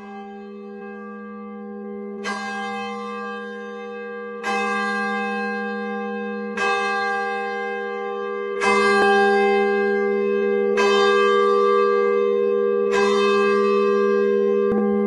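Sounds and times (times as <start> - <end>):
church bell tolling: 0.0 - 15.0.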